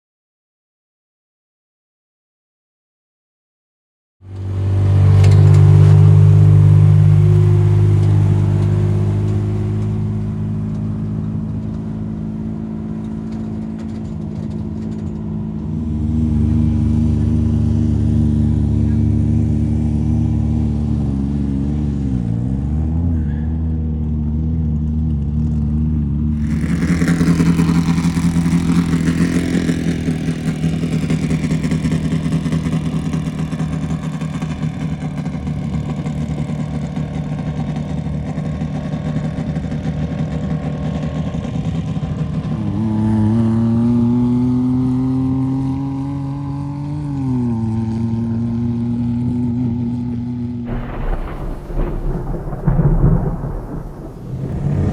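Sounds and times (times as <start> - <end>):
off-road vehicle engines running: 4.2 - 54.9.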